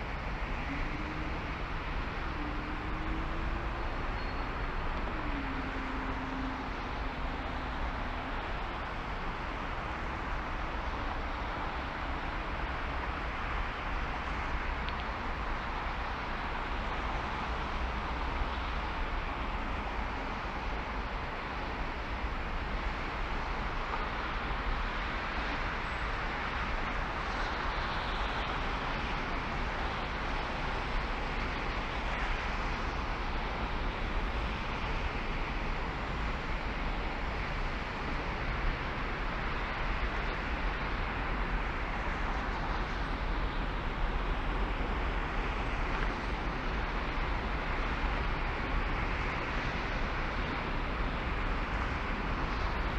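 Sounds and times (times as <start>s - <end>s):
car road and wind noise: 0.0s - 52.9s.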